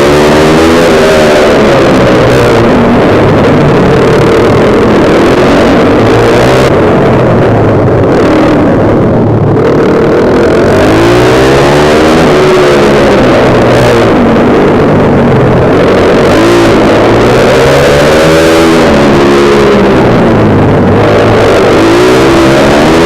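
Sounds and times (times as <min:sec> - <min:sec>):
go-kart engine running hard: 0:00.0 - 0:23.0.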